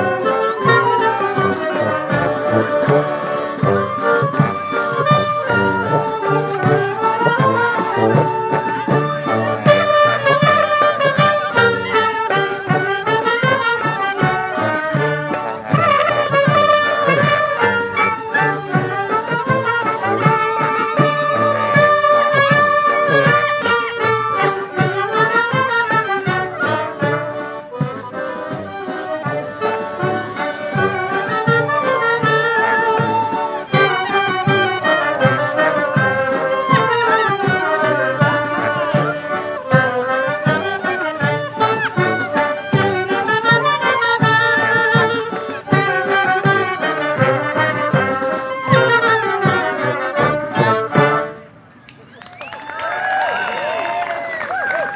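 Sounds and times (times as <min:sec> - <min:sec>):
brass band playing: 0:00.0 - 0:51.8.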